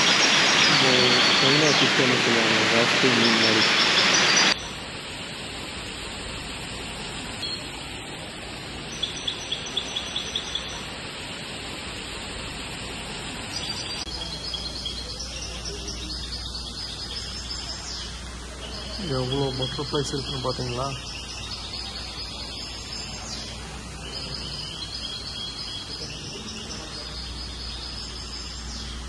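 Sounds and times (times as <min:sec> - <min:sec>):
birds chirping: 0:00.0 - 0:05.5, 0:06.9 - 0:12.2, 0:12.8 - 0:29.0
steady background hiss: 0:00.0 - 0:29.0.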